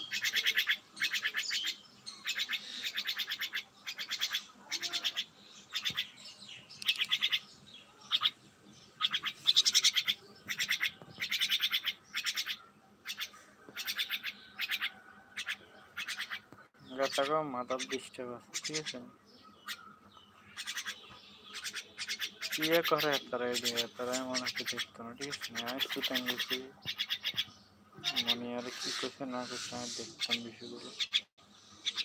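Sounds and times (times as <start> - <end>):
myna calling in rattling bursts: 0.0 - 16.5, 17.1 - 32.0.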